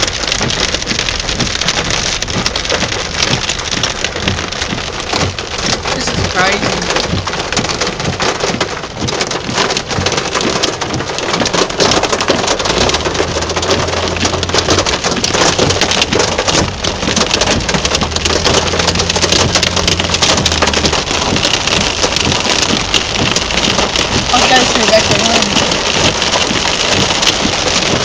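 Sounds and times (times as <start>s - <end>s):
heavy rain on hard surfaces: 0.0s - 28.0s.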